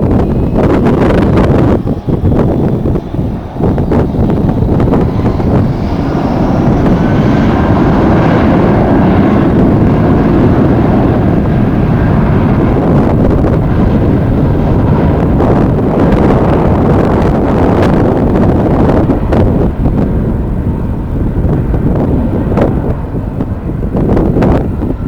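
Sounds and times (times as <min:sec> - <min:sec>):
faint turbine whine: 0:00.0 - 0:25.0
jet airliner engines passing: 0:00.0 - 0:25.0
wind buffeting microphone: 0:00.0 - 0:25.0.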